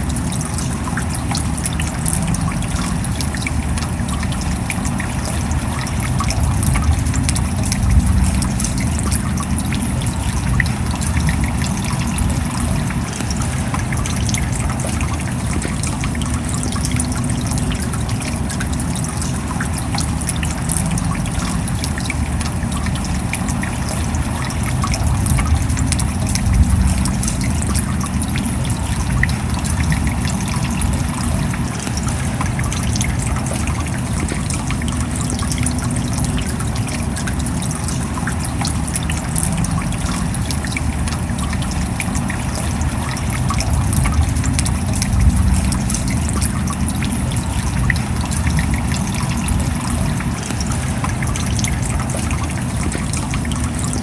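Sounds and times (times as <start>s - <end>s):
low rain rumble: 0.0s - 54.0s
rain drops ticking: 0.0s - 54.0s.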